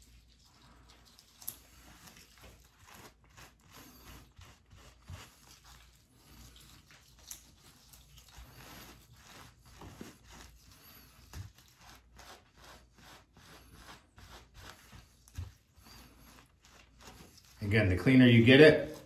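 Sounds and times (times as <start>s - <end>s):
cloth rubbing: 0.0s - 19.0s.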